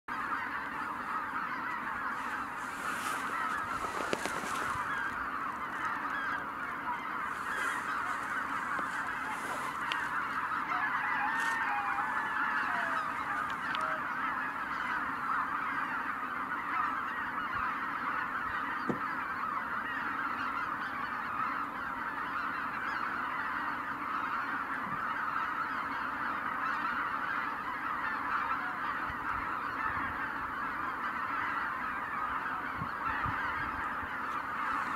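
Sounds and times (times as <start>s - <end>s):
flock of geese honking: 0.1s - 34.9s.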